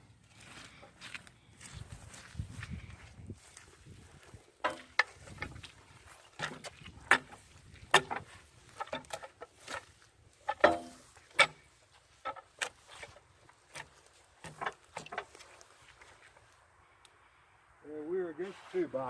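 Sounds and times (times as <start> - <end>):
footsteps in mud: 0.0 - 16.6.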